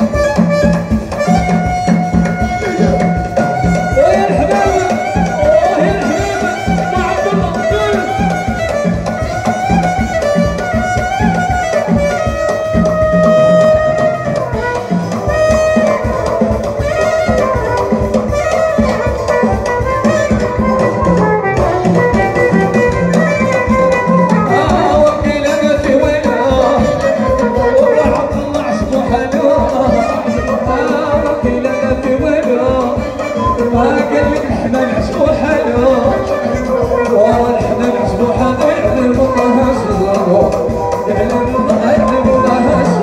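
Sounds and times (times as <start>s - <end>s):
driving drum beat: 0.0s - 43.0s
wavering melodic lead: 0.0s - 43.0s.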